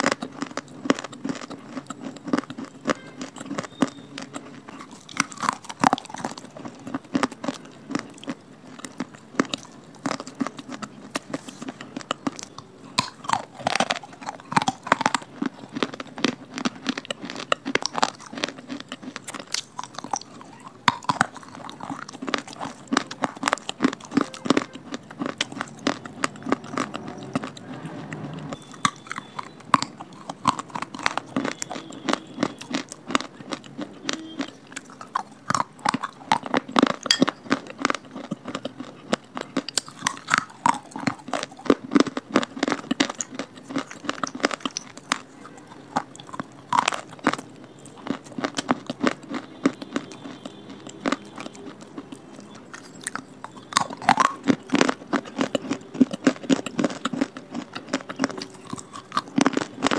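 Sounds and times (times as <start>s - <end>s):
person chewing crunchy pieces: 0.0s - 59.9s.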